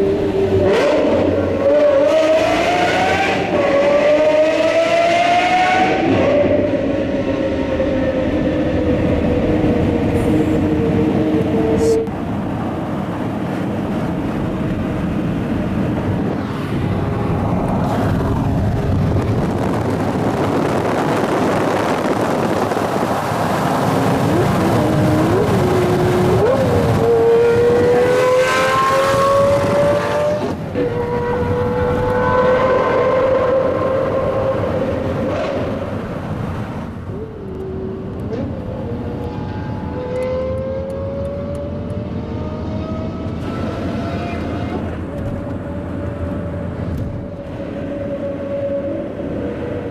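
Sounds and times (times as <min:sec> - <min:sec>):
road and wind noise: 0:00.0 - 0:49.9
sports car engine accelerating: 0:00.0 - 0:49.9.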